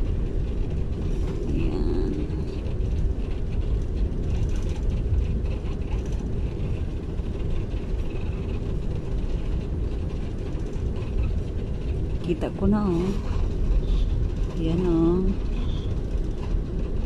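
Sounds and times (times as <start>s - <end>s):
airliner engines low rumble: 0.0s - 17.0s
wheels rolling on tarmac: 0.0s - 17.0s.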